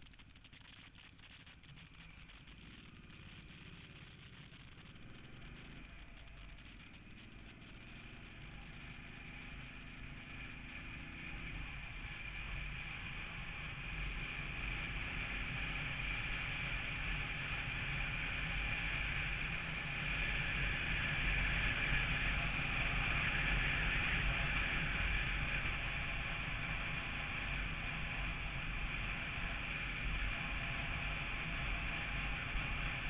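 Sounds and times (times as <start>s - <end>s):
road and wind noise: 0.0s - 33.0s
vehicle engine accelerating: 0.0s - 33.0s.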